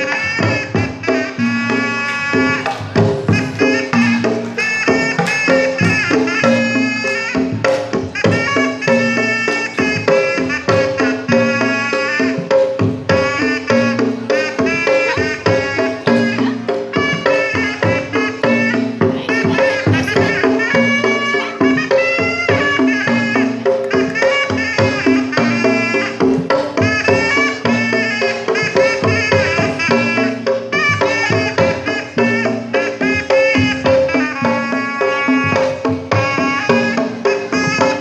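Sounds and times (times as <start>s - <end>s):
hand drum strokes: 0.0s - 38.0s
reedy horn melody: 0.0s - 38.0s.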